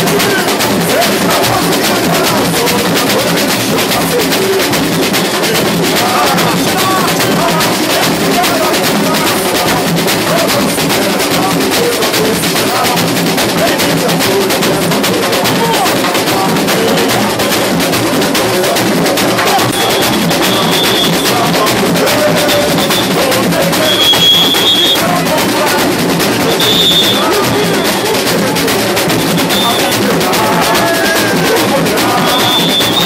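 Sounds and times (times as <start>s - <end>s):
samba drumming: 0.0s - 33.0s.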